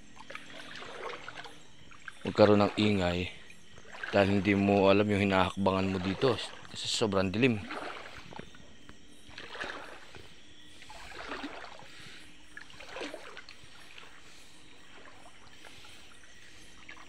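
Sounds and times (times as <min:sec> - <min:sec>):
wading steps sloshing in water: 0:00.0 - 0:17.0
water trickling: 0:00.0 - 0:17.0.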